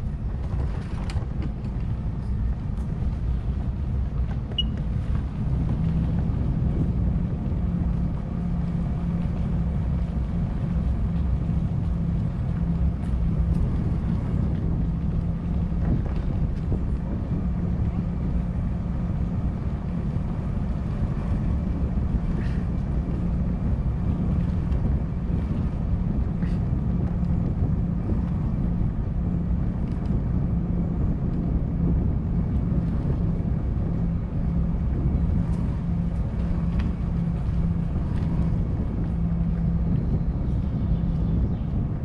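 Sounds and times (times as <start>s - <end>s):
low rumble: 0.0s - 42.0s
motor running steadily: 0.0s - 42.0s
wind buffeting microphone: 0.0s - 42.0s.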